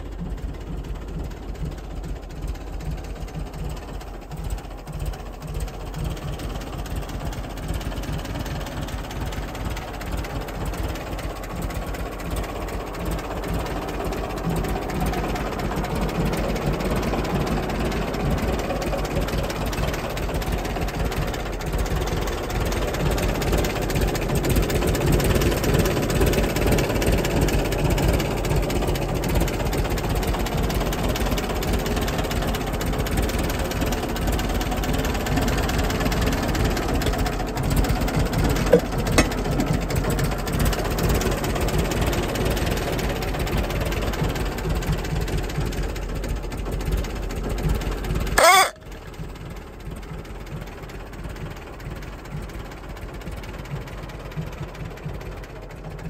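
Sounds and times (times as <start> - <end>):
petrol engine idling: 0.0 - 56.0.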